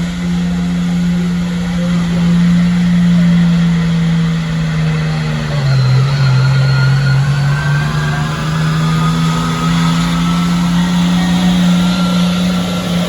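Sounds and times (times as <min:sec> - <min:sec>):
truck engine running hard: 0:00.0 - 0:13.0.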